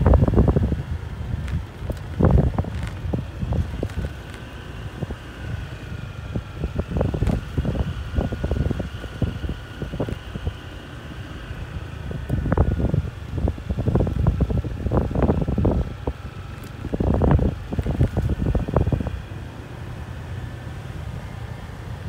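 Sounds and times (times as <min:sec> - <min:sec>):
wind buffeting microphone: 0:00.0 - 0:19.4
motorcycle whine: 0:00.0 - 0:22.0.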